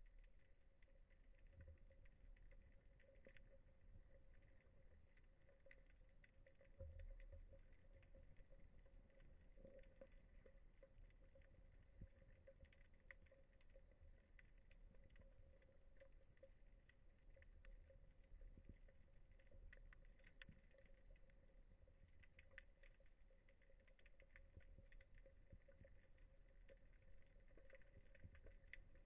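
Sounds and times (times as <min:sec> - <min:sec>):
faint clicks and crackles: 0:00.0 - 0:29.0
faint underwater ambience: 0:00.0 - 0:29.0.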